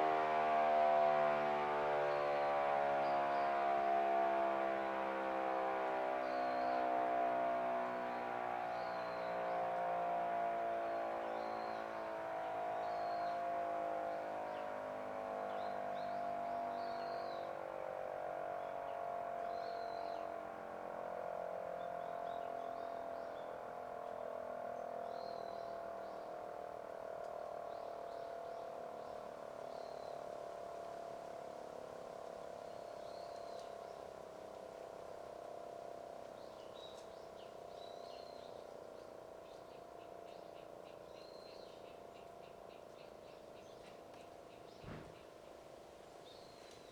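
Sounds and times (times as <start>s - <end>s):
warning siren winding down: 0.0s - 39.5s.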